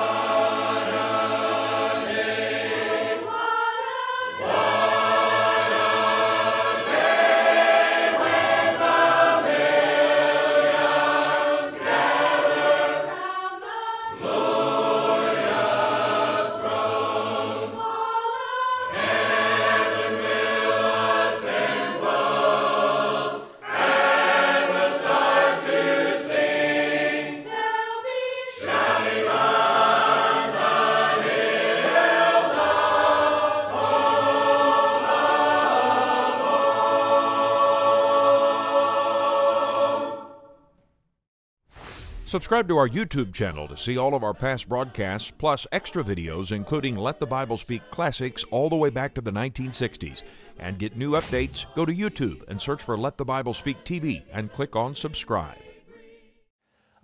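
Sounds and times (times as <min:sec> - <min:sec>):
congregation singing a hymn: 0:00.0 - 0:40.6, 0:45.9 - 0:56.3.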